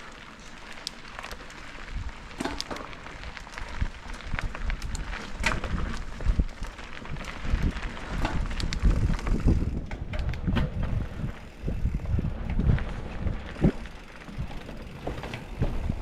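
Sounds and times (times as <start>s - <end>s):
tyres rolling on dirt trail: 0.0s - 16.0s
wind rumbling on microphone: 0.6s - 16.0s.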